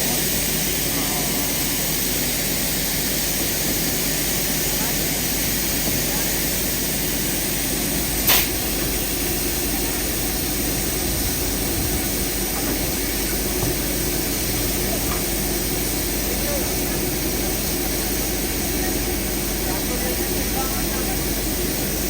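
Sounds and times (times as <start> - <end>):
train running noise on board: 0.0 - 22.0.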